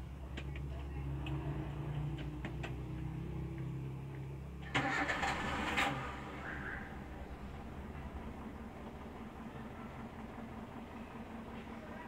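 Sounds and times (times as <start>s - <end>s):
minivan engine idling: 0.0s - 12.0s.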